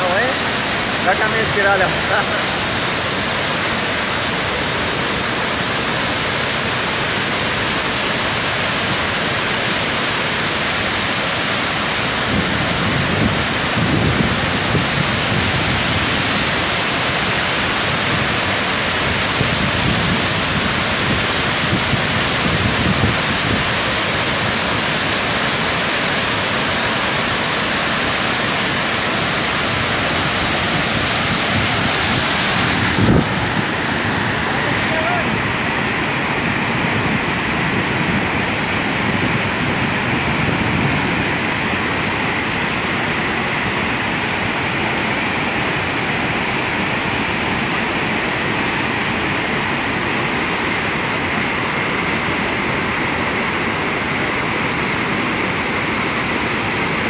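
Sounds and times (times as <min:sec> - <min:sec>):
water rushing from dam outlets: 0:00.0 - 0:57.0.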